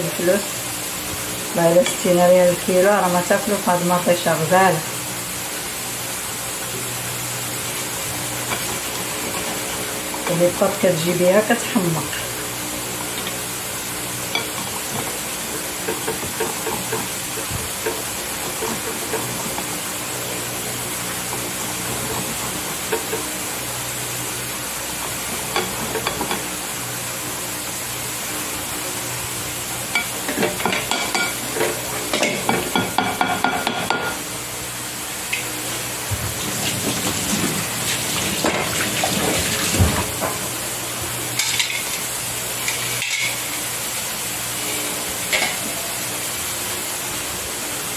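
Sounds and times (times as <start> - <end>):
steady sizzling hiss: 0.0 - 47.9.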